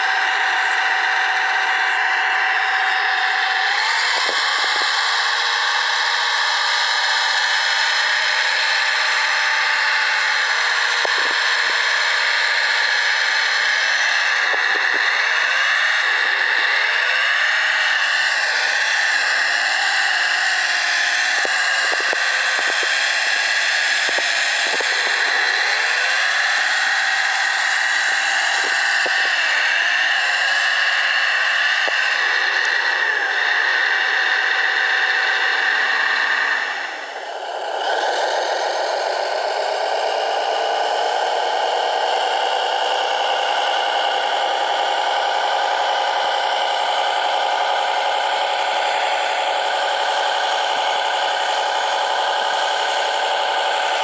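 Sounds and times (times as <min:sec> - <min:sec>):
model track loader motor whine: 0:00.0 - 0:54.0
scattered clicks: 0:00.2 - 0:17.5, 0:20.2 - 0:54.0.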